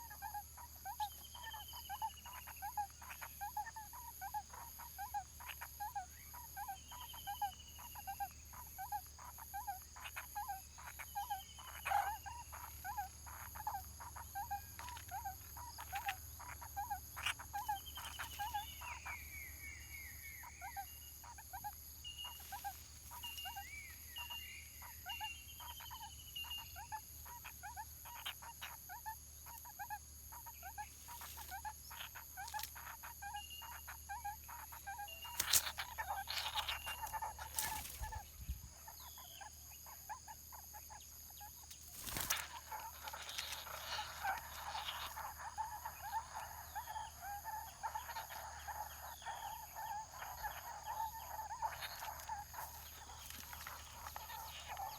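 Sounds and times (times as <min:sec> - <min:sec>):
small birds chirping and trilling: 0:00.0 - 0:54.9.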